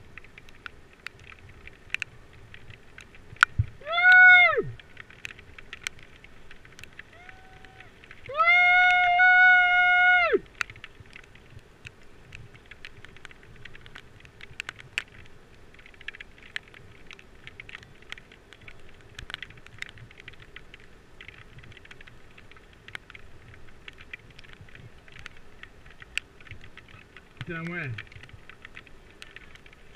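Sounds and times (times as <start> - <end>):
rain pattering on camera housing: 0.0 - 29.9.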